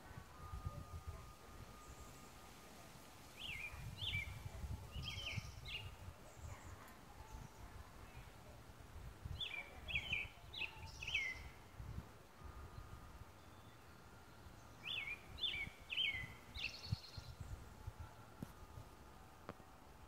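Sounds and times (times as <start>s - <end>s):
songbird singing: 0.0s - 20.0s
low rumbling on microphone: 3.4s - 20.0s.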